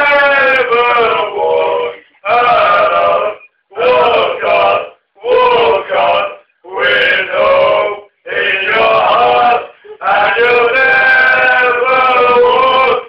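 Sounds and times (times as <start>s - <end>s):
drunken man singing loudly: 0.0s - 6.4s, 8.7s - 13.0s.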